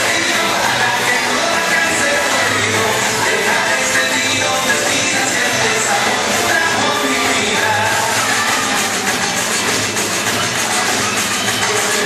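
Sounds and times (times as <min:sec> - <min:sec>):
music with singing voice: 0:00.0 - 0:12.0.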